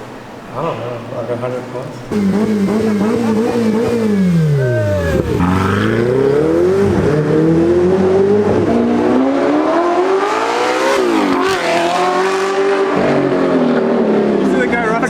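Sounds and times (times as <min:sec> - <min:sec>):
car engine accelerating: 0:02.1 - 0:15.0.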